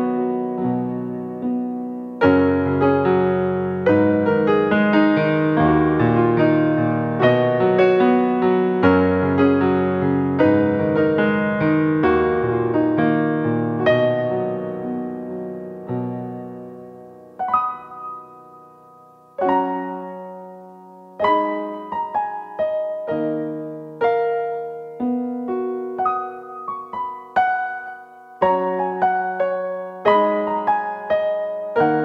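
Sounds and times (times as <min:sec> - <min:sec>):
slow solo piano: 0:00.0 - 0:32.0.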